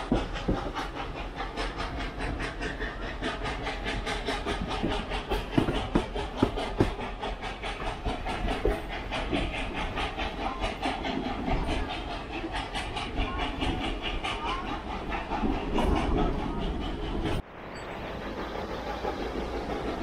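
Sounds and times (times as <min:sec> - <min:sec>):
steam locomotive chuffing: 0:00.0 - 0:20.0
wheels clacking over rail joints: 0:00.0 - 0:20.0.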